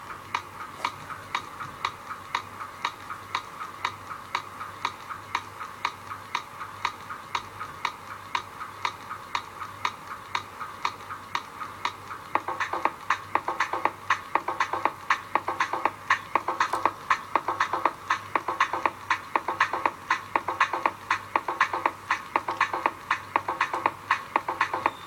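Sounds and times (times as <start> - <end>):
clock-like ticking percussion: 0.0 - 25.0.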